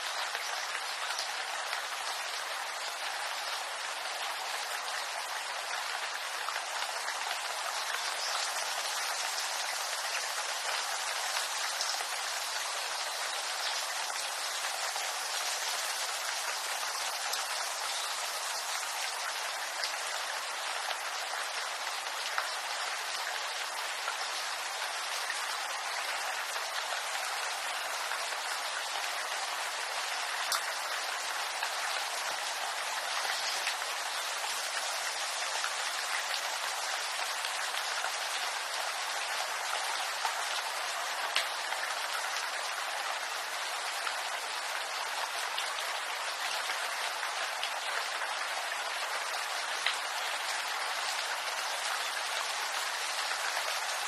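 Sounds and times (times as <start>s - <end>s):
rain on bamboo leaves: 0.0s - 54.0s.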